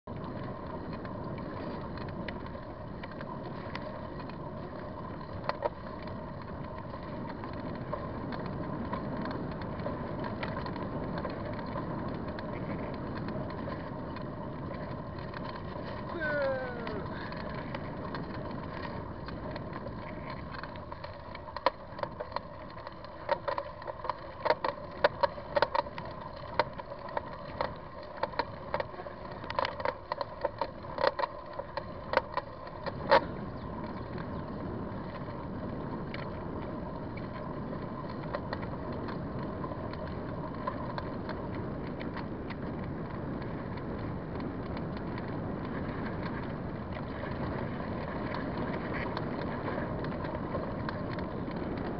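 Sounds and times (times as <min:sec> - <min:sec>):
wind and tyre rush: 0:00.0 - 0:51.9
bicycle clicks and rattles: 0:00.1 - 0:51.9.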